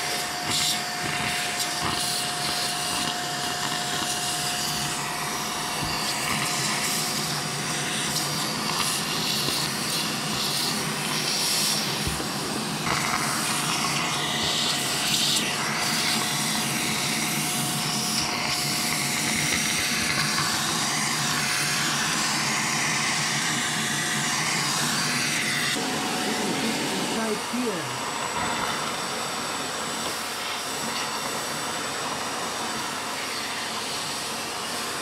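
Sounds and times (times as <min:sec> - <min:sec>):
shop vacuum running: 0:00.0 - 0:35.0
vacuum sucking up sawdust: 0:00.0 - 0:35.0.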